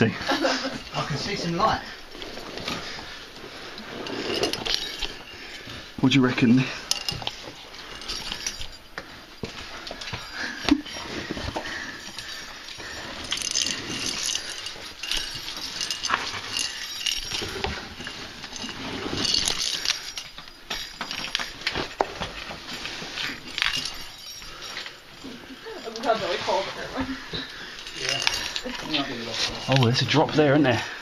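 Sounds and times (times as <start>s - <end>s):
clothing rustling against rock: 0.0s - 31.0s.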